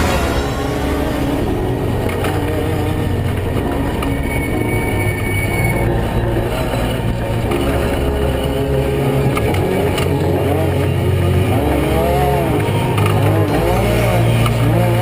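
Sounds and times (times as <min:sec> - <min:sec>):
race truck engine revving: 0:00.0 - 0:15.0.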